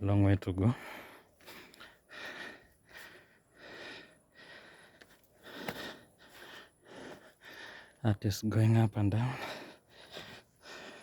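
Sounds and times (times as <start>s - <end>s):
person breathing hard: 0.7s - 8.0s, 9.2s - 11.0s.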